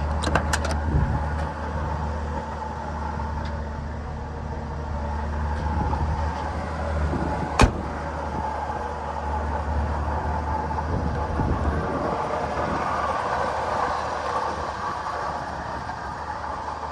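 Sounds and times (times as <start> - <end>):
pickup truck engine running: 0.0 - 16.9.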